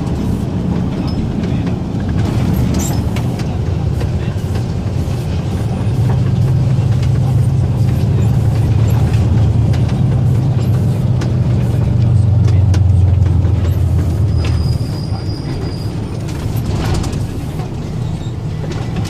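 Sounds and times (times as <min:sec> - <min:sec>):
cab clicks and rattles: 0:00.0 - 0:19.0
truck diesel engine drone: 0:00.0 - 0:19.0.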